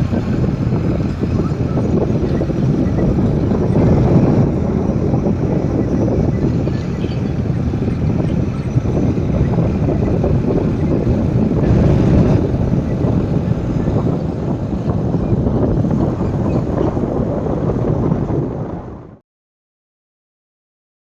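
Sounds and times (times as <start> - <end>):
tractor diesel engine running: 0.0 - 19.0
wind buffeting microphone: 0.0 - 19.2.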